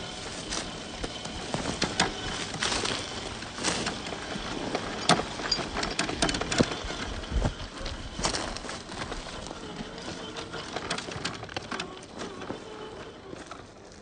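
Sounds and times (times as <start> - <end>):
electric motor and gear hum: 0.0 - 14.0
tires crunching over stones: 0.0 - 14.0.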